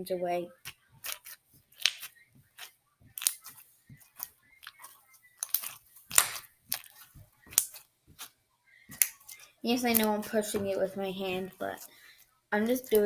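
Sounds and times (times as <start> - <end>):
slime with beads crackling: 0.5 - 13.0.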